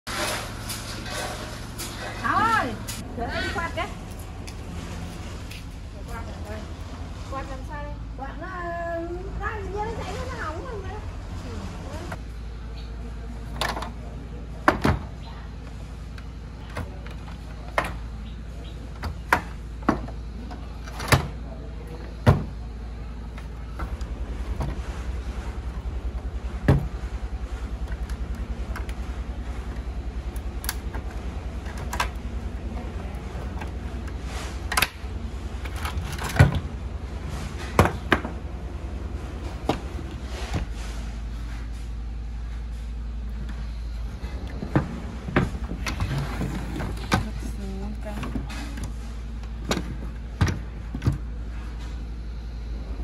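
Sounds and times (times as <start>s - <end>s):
steady low hum: 0.1s - 53.0s.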